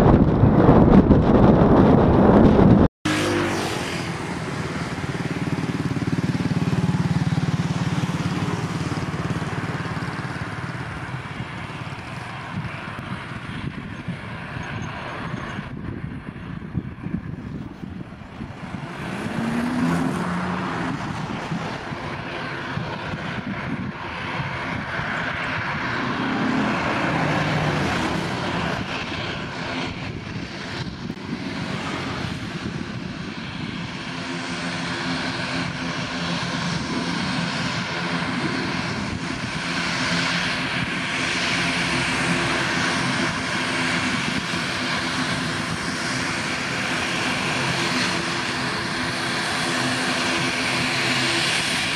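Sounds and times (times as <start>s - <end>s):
turboprop engines droning: 0.0s - 51.9s.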